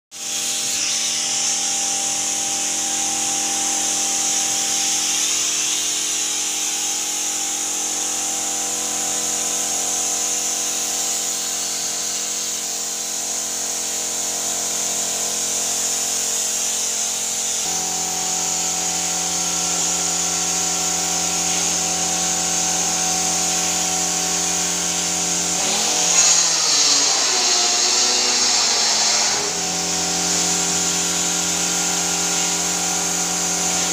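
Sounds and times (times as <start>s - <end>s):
air compressor humming: 0.2s - 33.9s
spray gun hissing: 0.2s - 33.9s.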